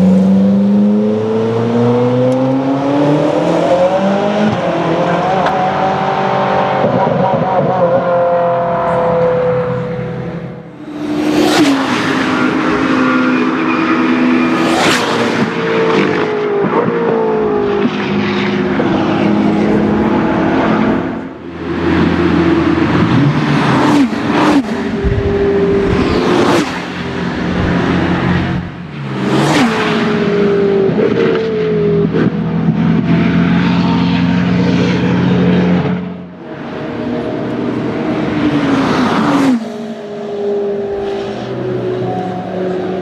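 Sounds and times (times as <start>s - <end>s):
race car engines at full throttle: 0.0s - 43.0s.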